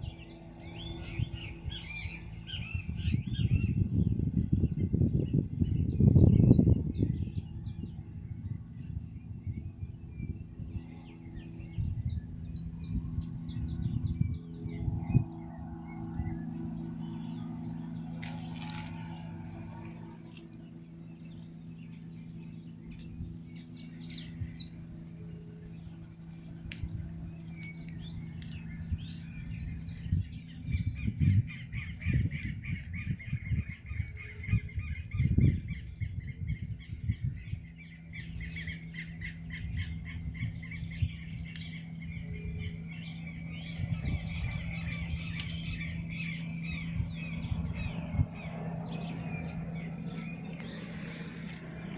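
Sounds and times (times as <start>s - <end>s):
birds chirping and whistling: 0.0s - 51.9s
high-pitched whine: 0.0s - 51.9s
low hum: 0.0s - 51.9s.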